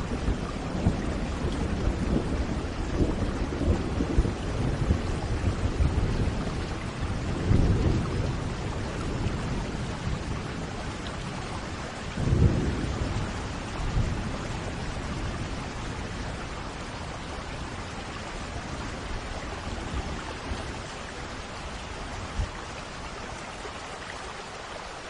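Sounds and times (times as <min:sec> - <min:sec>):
low rolling thunder: 0:00.0 - 0:23.4
steady rain: 0:00.0 - 0:25.0.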